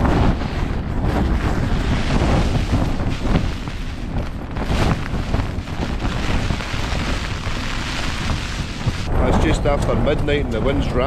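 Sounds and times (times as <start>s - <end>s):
tent fabric flapping: 0.0s - 9.1s
wind buffeting microphone: 0.0s - 11.0s
wind roaring: 0.0s - 11.0s.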